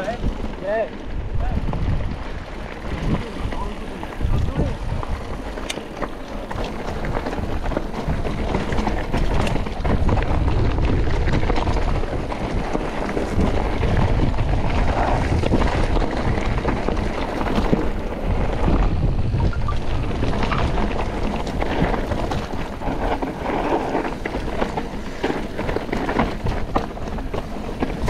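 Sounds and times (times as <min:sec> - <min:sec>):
bike rattles and knocks: 0:00.0 - 0:28.0
wind buffeting microphone: 0:00.0 - 0:28.0
tyre rumble on rocky ground: 0:02.7 - 0:28.0.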